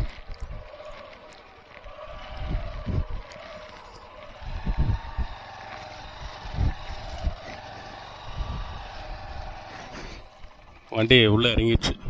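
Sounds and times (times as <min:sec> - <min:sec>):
motorcycle engine running: 0:00.0 - 0:11.8
wind buffeting microphone: 0:00.0 - 0:12.0.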